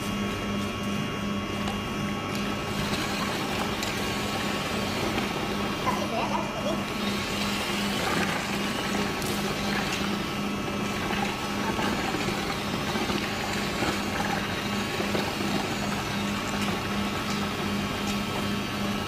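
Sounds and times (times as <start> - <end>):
pulsing mechanical hum: 0.0 - 19.0.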